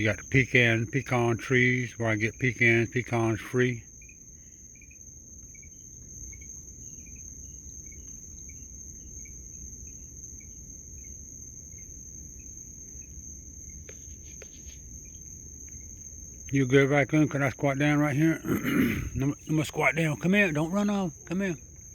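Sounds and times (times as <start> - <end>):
crickets trilling: 0.0 - 21.9
low background rumble: 3.8 - 21.9.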